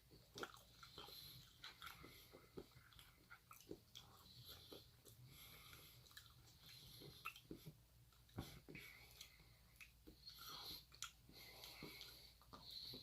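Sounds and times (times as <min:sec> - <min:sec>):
low room hiss: 0:00.0 - 0:13.0
person chewing: 0:00.0 - 0:13.0.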